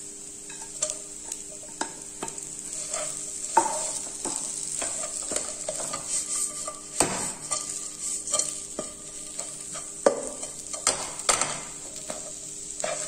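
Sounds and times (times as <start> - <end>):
food sizzling: 0.0 - 13.0
spatula knocking frying pan: 0.5 - 13.0.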